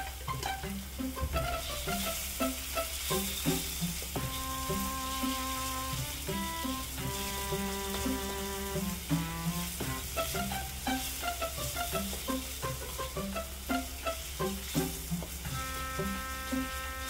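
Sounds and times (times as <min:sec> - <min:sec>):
music of plucked notes: 0:00.0 - 0:17.0
paste sizzling in a wok: 0:00.0 - 0:17.0
spatula scraping a wok: 0:00.1 - 0:17.0.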